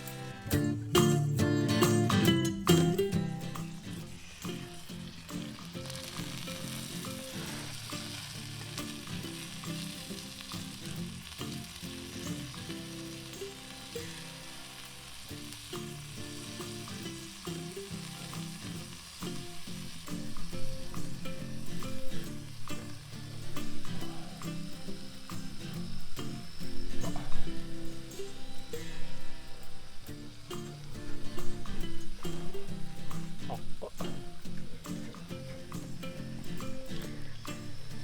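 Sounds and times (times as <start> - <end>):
food sizzling over campfire: 0.0 - 38.0.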